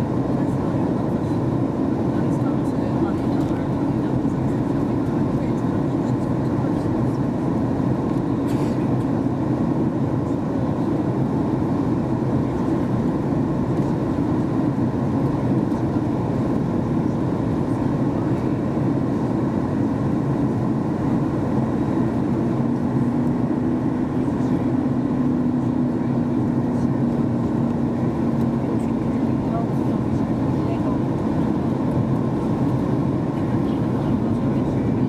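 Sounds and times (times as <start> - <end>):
airplane cabin drone: 0.0 - 35.0.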